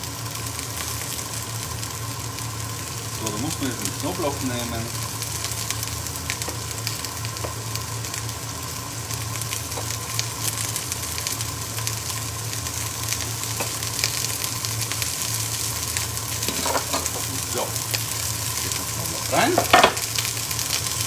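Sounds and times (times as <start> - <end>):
steady low hum: 0.0 - 21.0
vegetables sizzling in a pan: 0.0 - 21.0.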